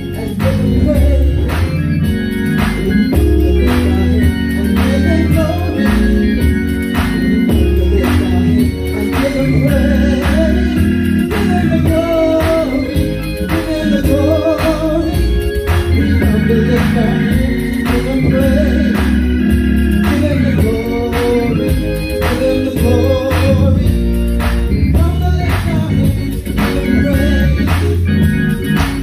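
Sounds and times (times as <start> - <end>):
gospel music with organ and beat: 0.0 - 29.0.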